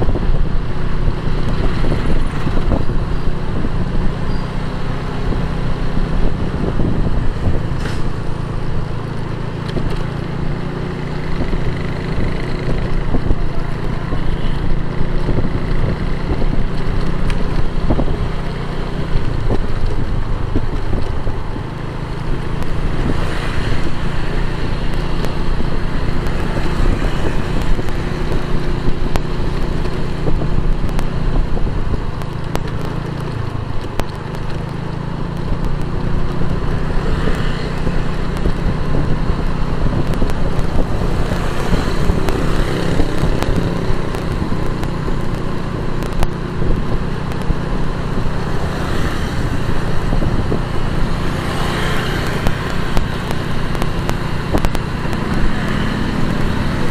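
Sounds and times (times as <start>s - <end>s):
motorcycle engine running: 0.0s - 56.9s
road and wind noise: 0.0s - 56.9s
vehicles passing: 0.0s - 56.9s.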